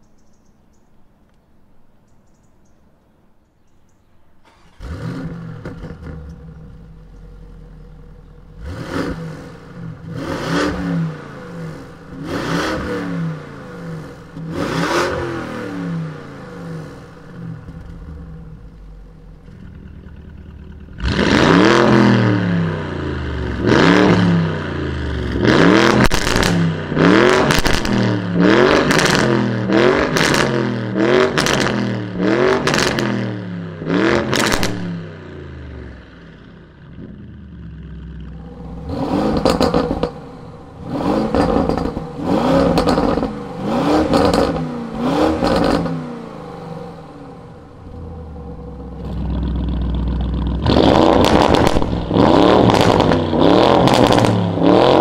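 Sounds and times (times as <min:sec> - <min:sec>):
car engine starting and revving: 0:04.4 - 0:55.0.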